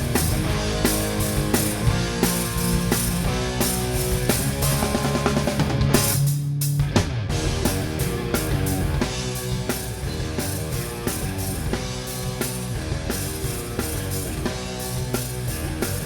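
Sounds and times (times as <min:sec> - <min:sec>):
hard rock band playing: 0:00.0 - 0:16.0.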